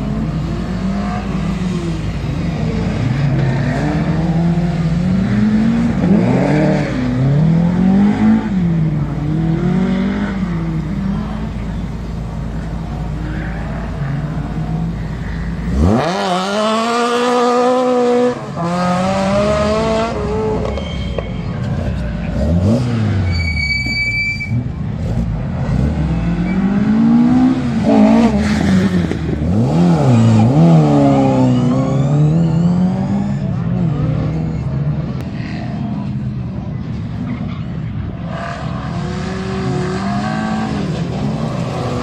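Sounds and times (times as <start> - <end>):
rally car engine blips: 0.0 - 42.0
rally car engine revving: 0.0 - 42.0.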